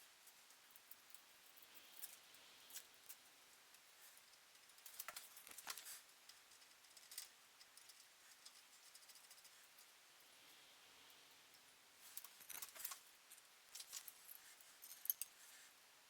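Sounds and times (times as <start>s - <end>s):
small clicks and handling sounds: 0.2s - 9.9s, 11.6s - 15.6s.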